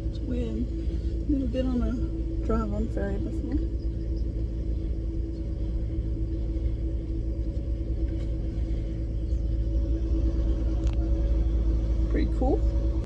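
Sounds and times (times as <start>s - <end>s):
ferry engine rumble: 0.0s - 13.0s.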